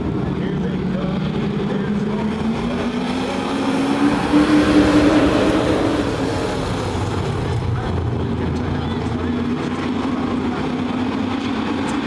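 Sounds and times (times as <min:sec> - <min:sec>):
racing truck engines: 0:00.0 - 0:12.0
truck passing by: 0:00.0 - 0:12.0.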